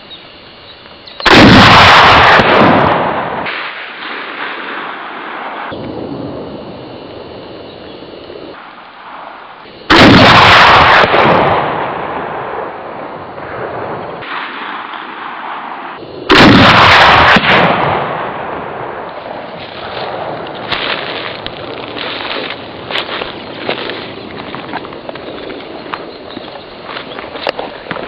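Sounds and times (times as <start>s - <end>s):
rifle shots with echo: 1.2s - 6.1s, 8.5s - 28.0s.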